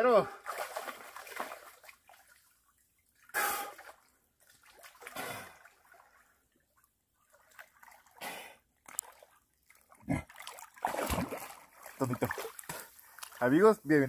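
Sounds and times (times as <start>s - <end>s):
water splashing and sloshing: 0.1s - 14.0s.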